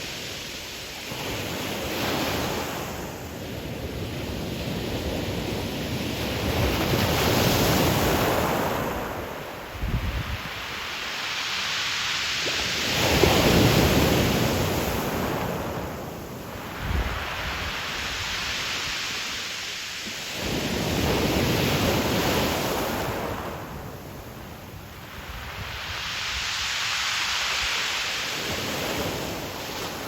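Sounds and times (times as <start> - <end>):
surf breaking on pebble shore: 0.0 - 30.0.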